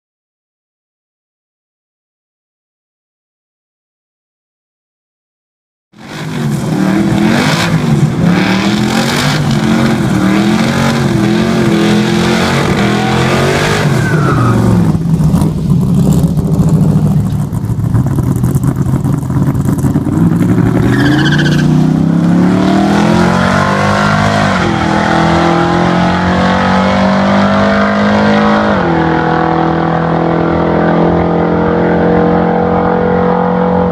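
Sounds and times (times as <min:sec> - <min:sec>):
car engine revving: 0:06.0 - 0:33.9.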